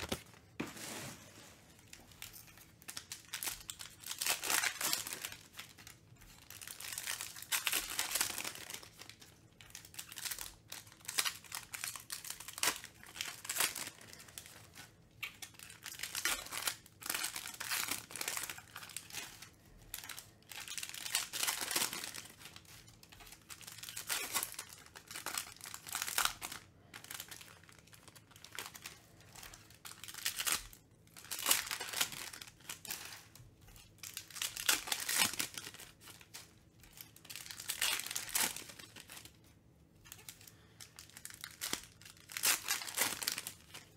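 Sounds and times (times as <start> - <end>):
foil wrappers crinkling and tearing: 0.0 - 43.9.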